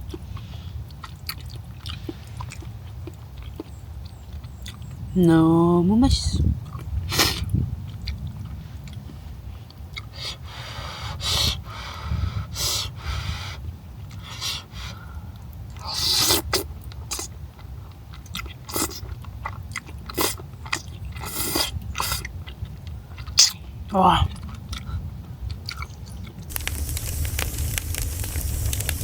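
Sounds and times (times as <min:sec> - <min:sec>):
person chewing and eating: 0:00.0 - 0:05.1, 0:06.6 - 0:11.5, 0:14.0 - 0:29.0
low background hum: 0:00.0 - 0:29.0.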